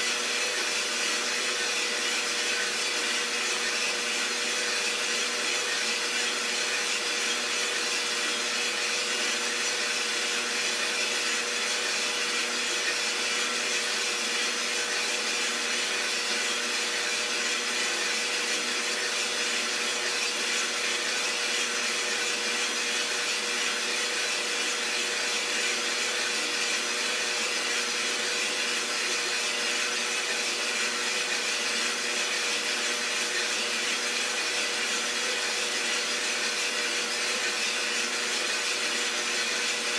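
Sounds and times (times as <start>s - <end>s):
coffee roaster rushing noise: 0.0s - 39.9s.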